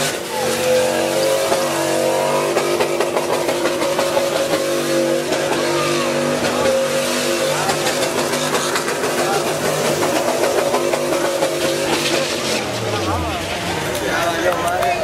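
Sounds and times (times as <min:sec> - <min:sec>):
engine revving at redline: 0:00.0 - 0:15.0.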